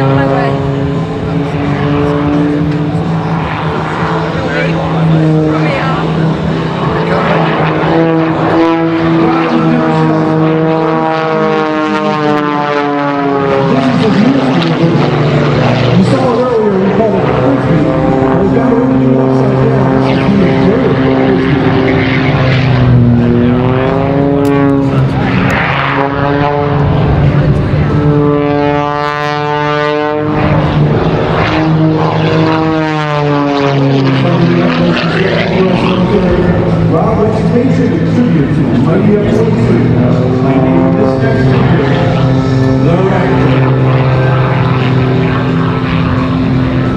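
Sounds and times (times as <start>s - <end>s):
propeller plane engine in flight: 0.0s - 46.9s.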